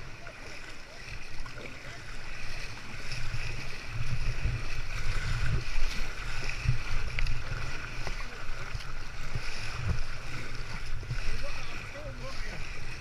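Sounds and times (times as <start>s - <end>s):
water lapping around a kayak: 0.0s - 13.0s.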